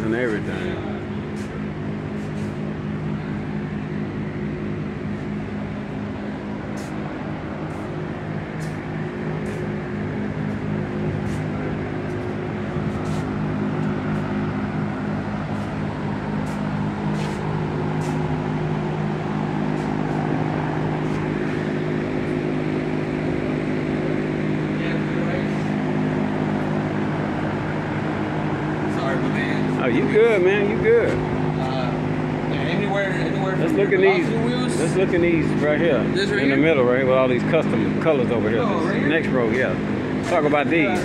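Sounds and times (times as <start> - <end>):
low machine hum: 0.0 - 41.0.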